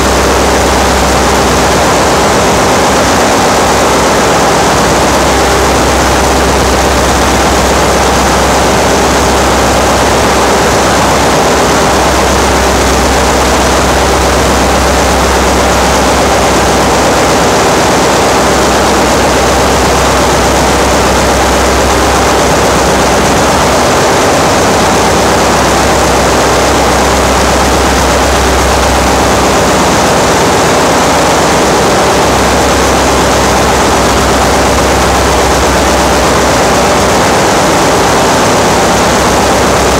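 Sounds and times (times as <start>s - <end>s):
engine-room machinery drone: 0.0s - 39.9s
steady machine tones: 0.0s - 39.9s.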